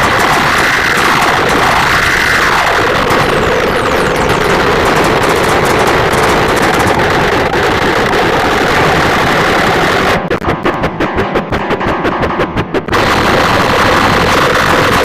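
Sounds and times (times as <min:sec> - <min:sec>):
fast even pulses: 0:00.0 - 0:15.0
harsh noise music: 0:00.0 - 0:15.0.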